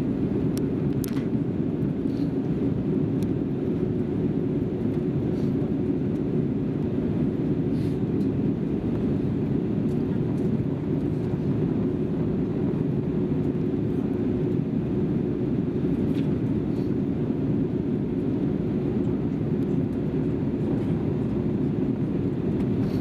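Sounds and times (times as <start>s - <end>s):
airplane cabin engine rumble: 0.0s - 23.0s
faint constant hum: 0.0s - 23.0s.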